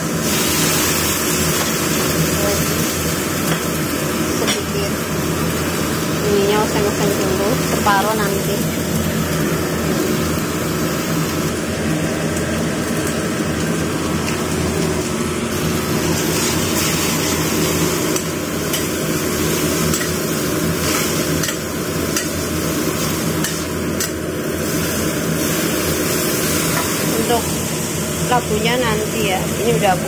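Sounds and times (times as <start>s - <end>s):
vegetables sizzling in a wok: 0.0s - 30.0s.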